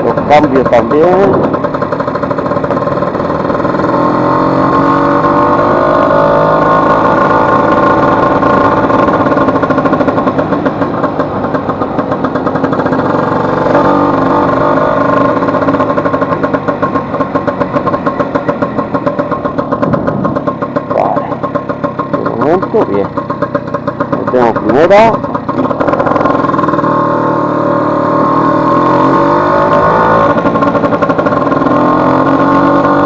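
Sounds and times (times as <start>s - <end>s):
scooter engine revving: 0.0s - 33.0s.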